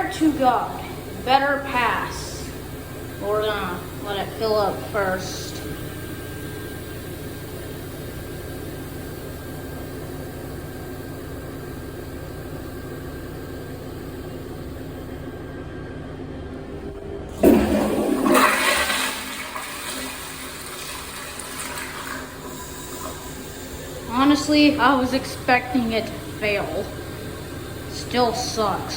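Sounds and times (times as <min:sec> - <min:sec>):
toilet tank refilling hiss: 0:00.0 - 0:15.7, 0:17.3 - 0:28.9
loud toilet flush: 0:00.0 - 0:28.9.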